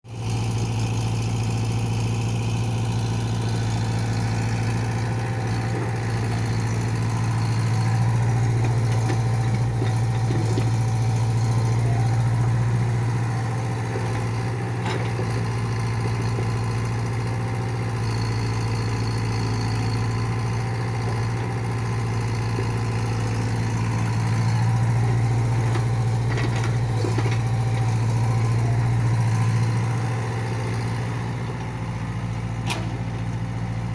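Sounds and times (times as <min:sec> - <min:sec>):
engine humming: 0:01.6 - 0:33.9.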